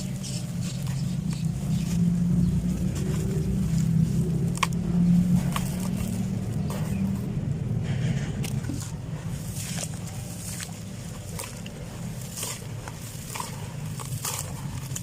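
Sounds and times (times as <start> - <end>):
cement clumps crumbling and crunching: 0.0 - 15.0
steady low hum: 0.0 - 15.0.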